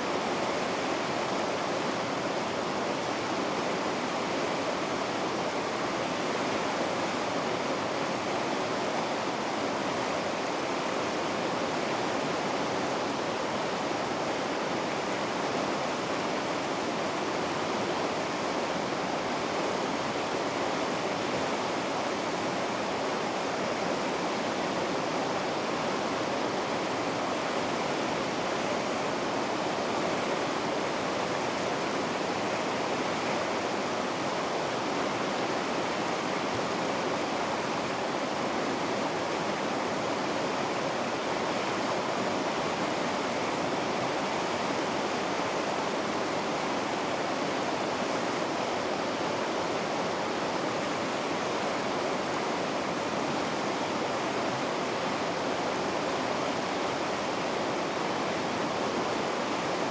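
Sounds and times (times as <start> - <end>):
river rapids rushing over rocks: 0.0 - 59.9.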